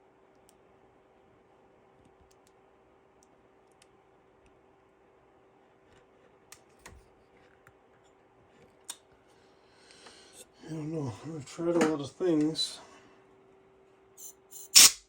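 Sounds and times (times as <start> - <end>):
faint steady hum: 0.0 - 14.7.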